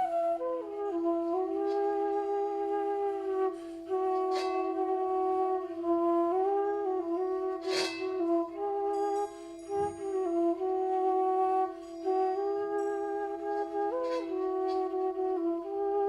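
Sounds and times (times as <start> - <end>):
held drone note: 0.0 - 16.0
slow flute lament: 0.0 - 16.0.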